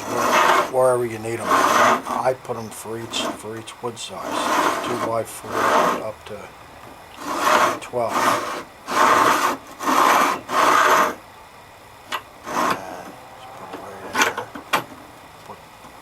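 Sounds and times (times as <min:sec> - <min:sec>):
wood rubbing on wood: 0:00.0 - 0:11.2, 0:12.1 - 0:15.6.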